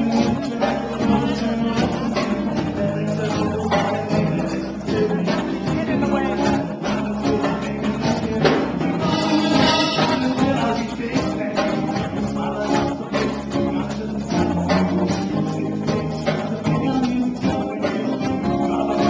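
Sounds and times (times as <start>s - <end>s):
guitar: 0.0s - 19.0s
live band playing: 0.0s - 19.0s
percussion beat: 0.0s - 19.0s.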